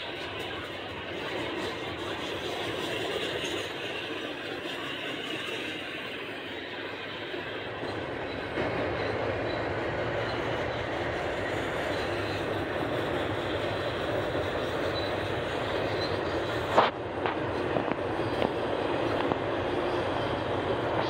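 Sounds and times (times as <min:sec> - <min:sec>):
train wheels rolling on rail: 0:00.0 - 0:21.0.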